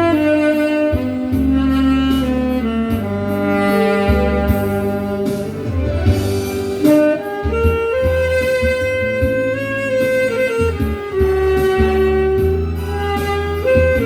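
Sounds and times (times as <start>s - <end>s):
low accompaniment: 0.0s - 14.0s
tenor saxophone melody: 0.0s - 14.0s.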